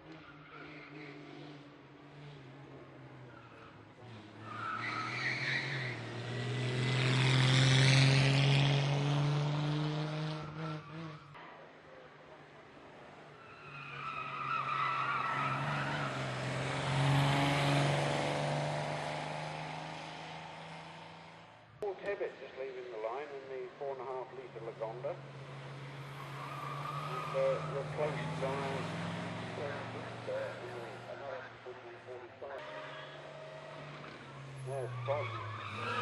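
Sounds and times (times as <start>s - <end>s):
racing car engines revving: 0.0s - 36.0s.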